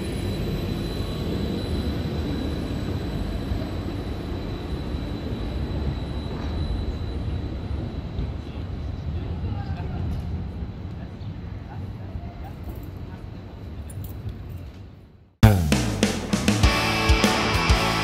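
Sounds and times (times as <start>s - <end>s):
tram rumbling on tracks: 0.0s - 14.8s.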